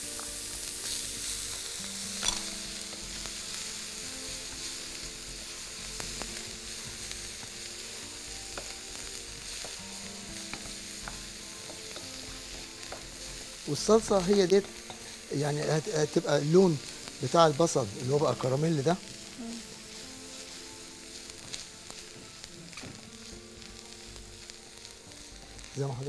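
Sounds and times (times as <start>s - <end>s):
onions sizzling in a pan: 0.0s - 26.0s.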